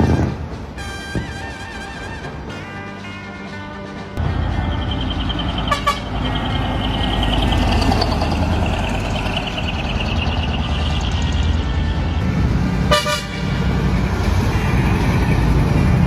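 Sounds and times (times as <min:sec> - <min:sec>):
truck diesel engine rumbling: 0:00.0 - 0:16.0.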